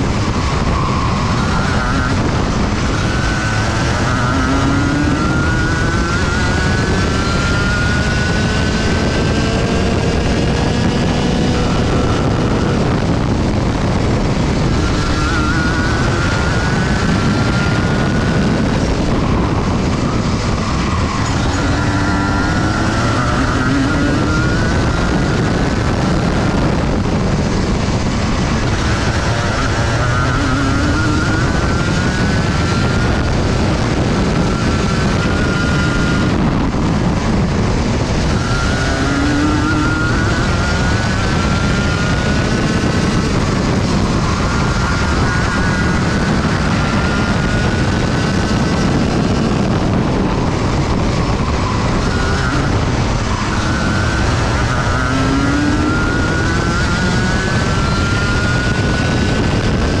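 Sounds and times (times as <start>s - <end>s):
kart engine revving: 0.0s - 60.0s.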